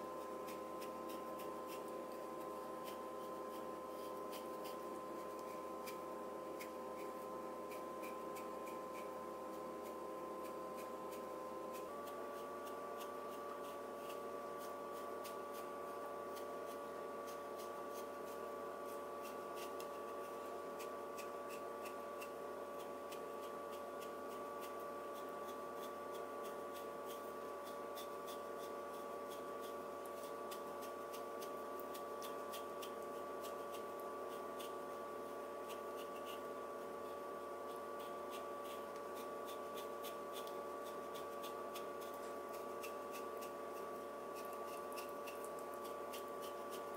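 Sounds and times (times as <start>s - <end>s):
electrical hum: 0.0s - 46.9s.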